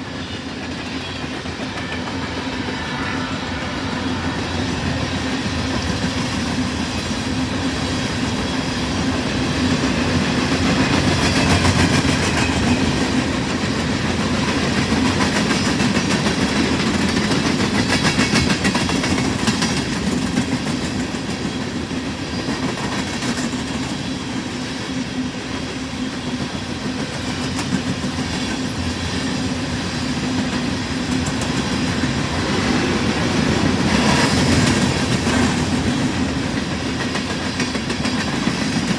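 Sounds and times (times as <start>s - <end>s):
freight train rolling past: 0.0s - 38.9s
train wheels clicking on rail joints: 0.0s - 38.9s.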